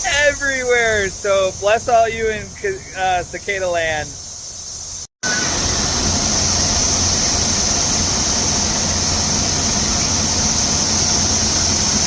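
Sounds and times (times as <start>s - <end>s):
cicadas buzzing: 0.0s - 12.0s
road traffic hum: 0.0s - 12.0s.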